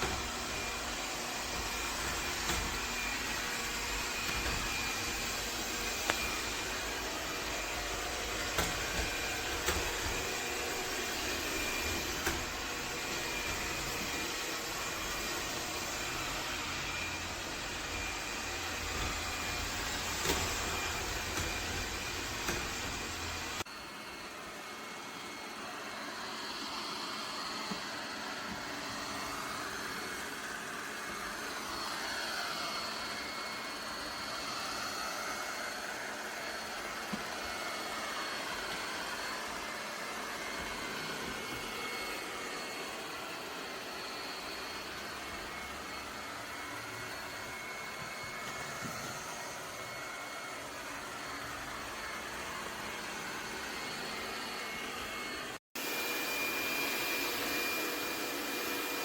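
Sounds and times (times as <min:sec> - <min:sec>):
robot vacuum whirring: 0:00.0 - 0:59.0.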